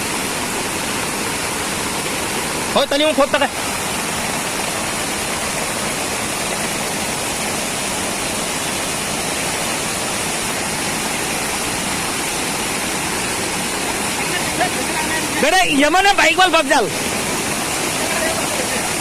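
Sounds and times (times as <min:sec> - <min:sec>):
fast-flowing water rushing: 0:00.0 - 0:19.0.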